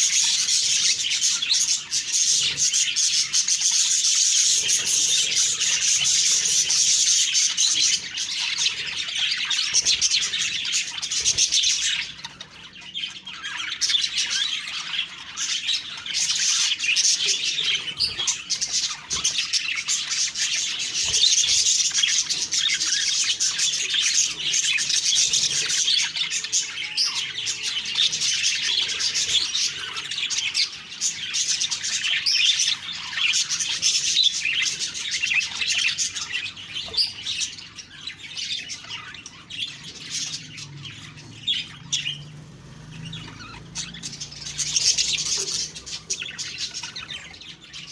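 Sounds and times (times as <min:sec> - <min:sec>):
budgerigars chirping and warbling: 0:00.0 - 0:47.9.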